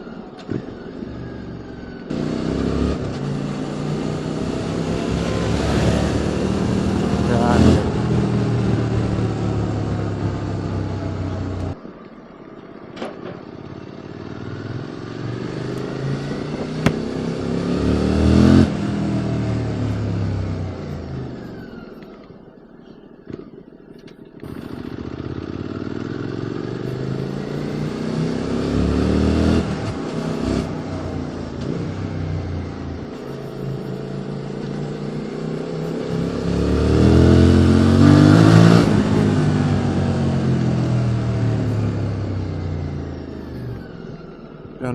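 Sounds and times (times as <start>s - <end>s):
motorcycle accelerating through gears: 0.0s - 11.8s, 13.5s - 22.6s, 23.9s - 44.9s.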